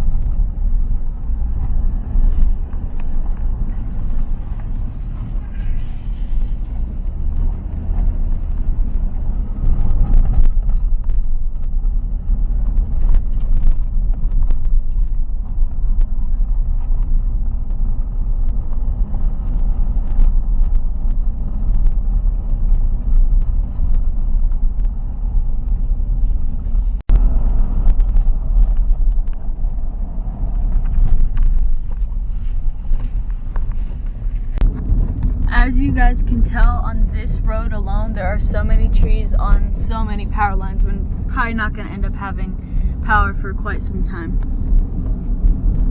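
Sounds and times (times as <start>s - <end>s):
car road rumble from inside: 0.0s - 45.9s.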